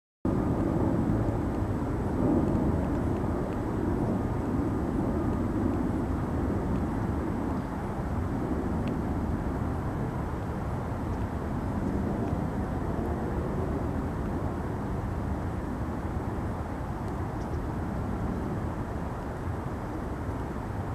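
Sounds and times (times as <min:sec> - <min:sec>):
distant jet airliner rumble: 0:00.3 - 0:20.9.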